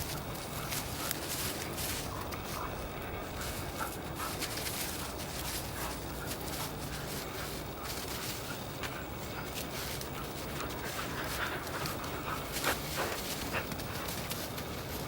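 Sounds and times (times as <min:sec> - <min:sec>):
footsteps walking: 0:00.0 - 0:15.0
steady background noise: 0:00.0 - 0:15.0.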